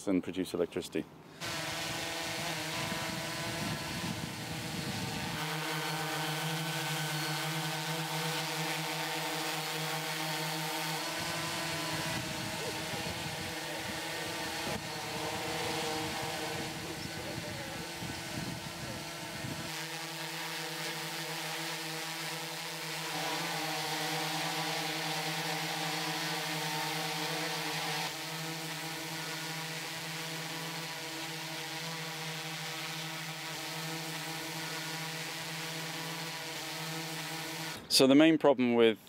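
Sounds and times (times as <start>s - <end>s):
drone propellers buzzing: 1.3s - 37.9s.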